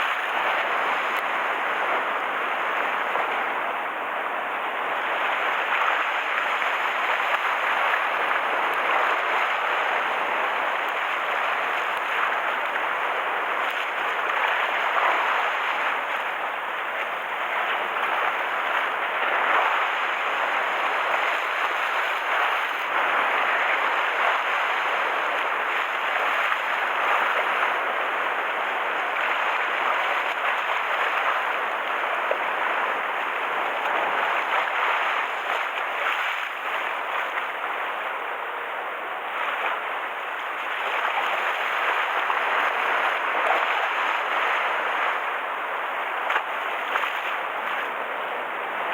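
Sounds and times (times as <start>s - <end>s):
wind: 0.0s - 48.9s
sea water splashing: 5.2s - 38.1s, 39.3s - 48.9s.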